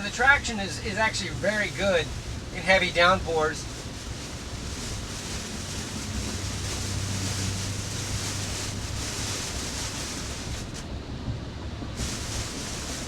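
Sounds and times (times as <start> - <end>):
rain hissing on car: 0.0 - 13.0
tyres on wet road: 0.0 - 13.0.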